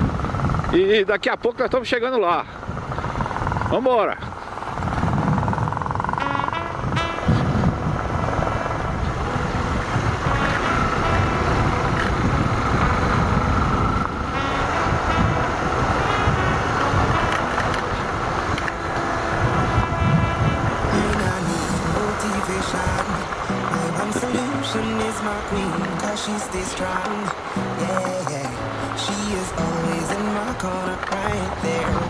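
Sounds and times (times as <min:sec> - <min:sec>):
wind buffeting microphone: 0:00.0 - 0:01.0, 0:02.6 - 0:32.0.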